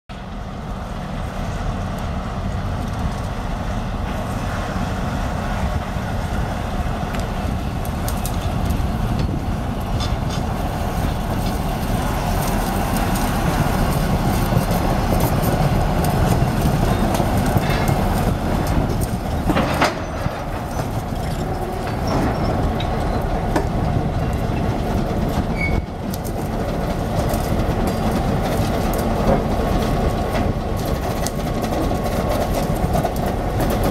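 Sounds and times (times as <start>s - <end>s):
diesel locomotive engine: 0.1s - 33.9s
train wheels rumbling on rails: 0.1s - 33.9s
wheels clicking over rail joints: 1.0s - 33.9s.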